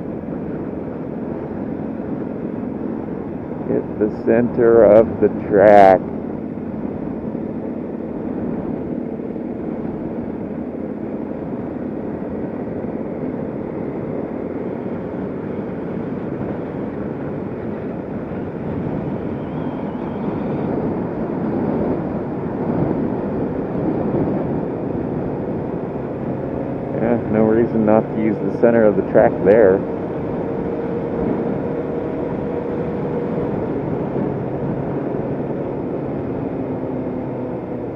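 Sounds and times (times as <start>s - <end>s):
motorcycle engine running: 0.0s - 37.9s
wind noise: 0.0s - 37.9s.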